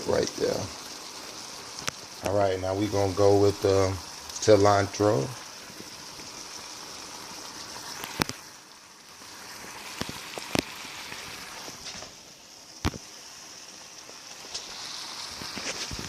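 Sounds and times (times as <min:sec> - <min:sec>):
pan sizzling: 0:00.0 - 0:16.0.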